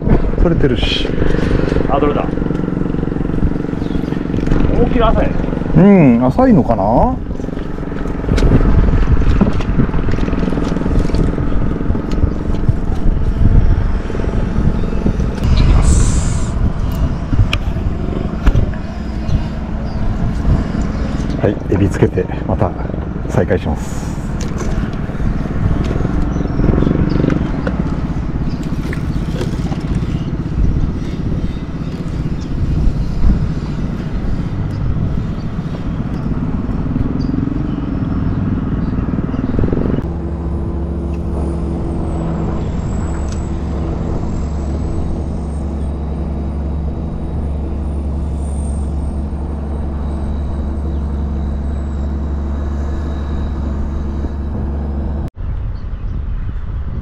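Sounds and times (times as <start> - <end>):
boat motor running: 0.0 - 55.3.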